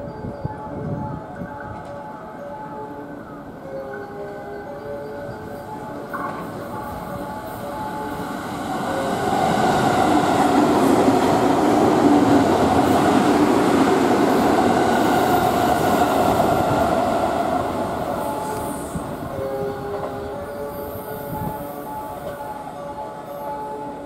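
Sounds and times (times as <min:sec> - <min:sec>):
electric train running: 0:04.0 - 0:24.0.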